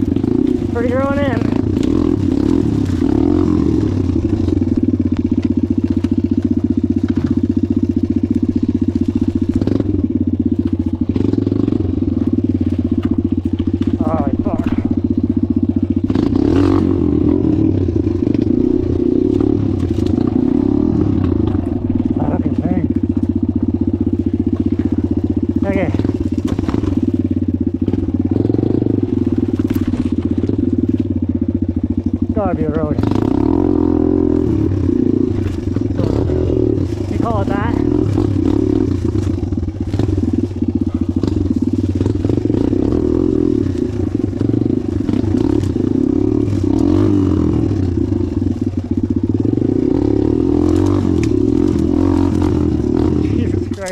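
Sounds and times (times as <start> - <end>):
dirt bike engine chugging: 0.0 - 53.9.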